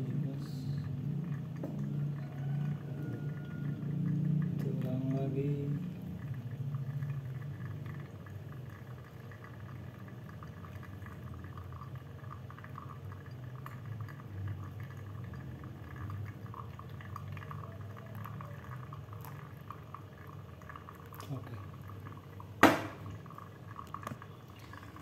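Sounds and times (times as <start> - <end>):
low steady hum: 0.0 - 25.0
water trickling onto coffee grounds: 0.0 - 25.0.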